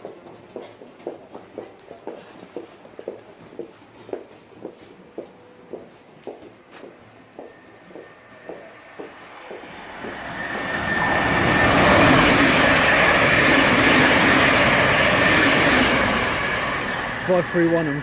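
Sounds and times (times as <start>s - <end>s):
train passing on tracks: 0.0s - 18.0s.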